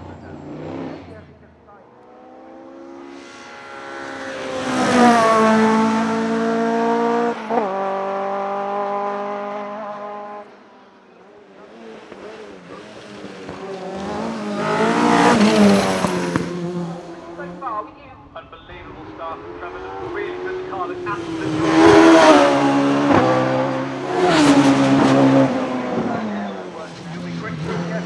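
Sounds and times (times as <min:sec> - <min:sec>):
race car passing at full throttle: 0:00.0 - 0:28.0.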